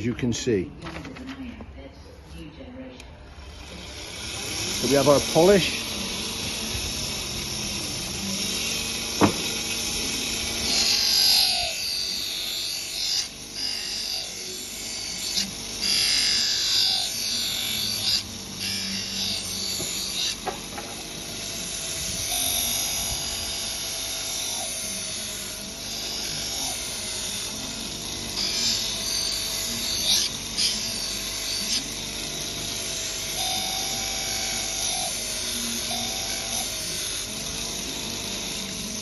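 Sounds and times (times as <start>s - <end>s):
bench grinder motor hum: 3.3s - 39.0s
blade hissing on grinding wheel: 3.4s - 39.0s.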